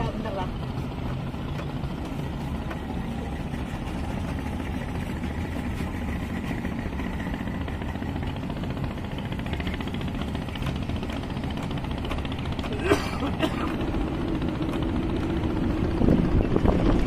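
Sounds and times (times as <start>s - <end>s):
outboard motors running: 0.0s - 17.0s.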